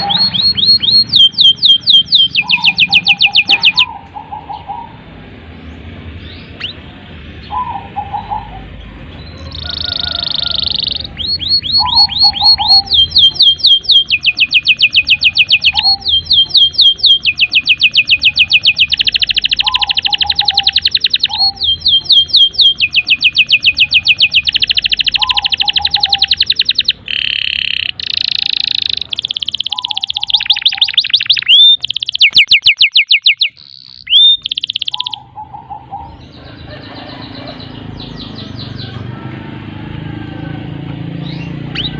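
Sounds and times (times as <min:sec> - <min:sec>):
canary singing trills: 0:00.0 - 0:39.4, 0:40.6 - 0:41.9.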